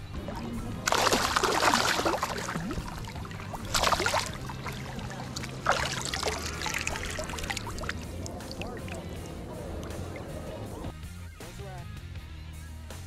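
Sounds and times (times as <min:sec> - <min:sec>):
shallow water splashing: 0:00.0 - 0:10.9.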